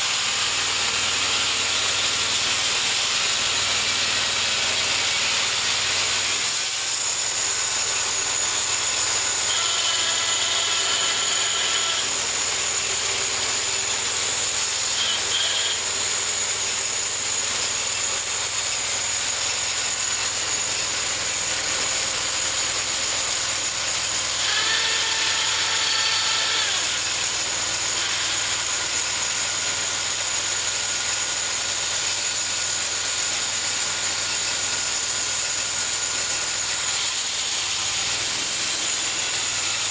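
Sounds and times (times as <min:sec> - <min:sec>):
bandsaw mill sawing log: 0:00.0 - 0:39.9.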